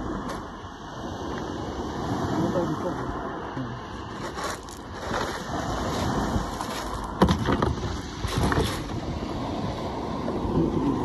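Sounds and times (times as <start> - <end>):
surf washing on shingle: 0.0 - 11.0
wind rumbling over microphone: 0.0 - 11.0.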